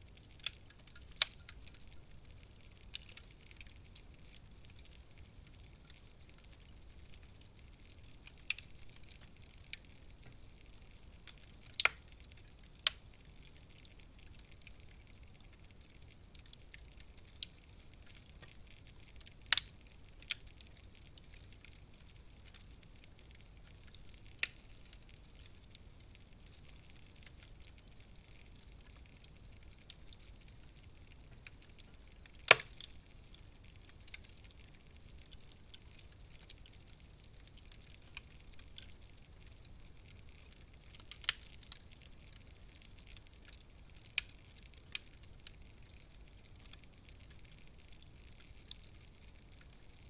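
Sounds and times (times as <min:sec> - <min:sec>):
faint steady hiss: 0:00.0 - 0:50.0
wood fire crackling: 0:00.0 - 0:50.0.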